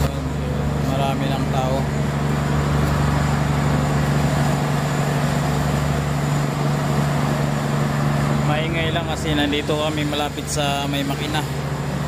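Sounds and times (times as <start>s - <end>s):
ship engine drone: 0.0s - 12.0s.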